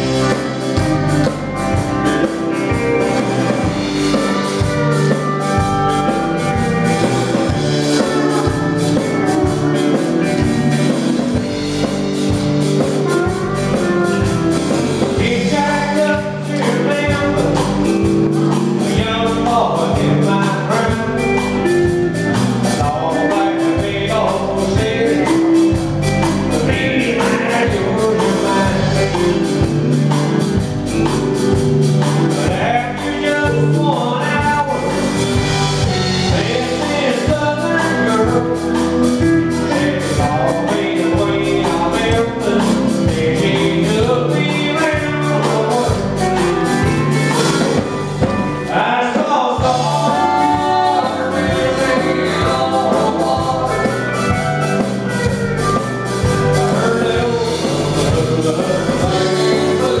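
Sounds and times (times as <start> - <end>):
live country band: 0.0 - 60.0
man singing: 3.6 - 31.5, 32.1 - 60.0.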